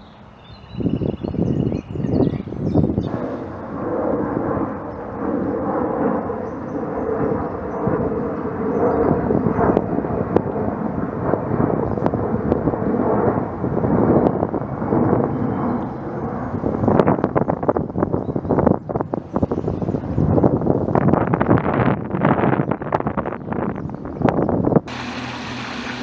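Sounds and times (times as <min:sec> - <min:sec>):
low rumbling drone: 0:00.0 - 0:24.2, 0:24.8 - 0:26.0.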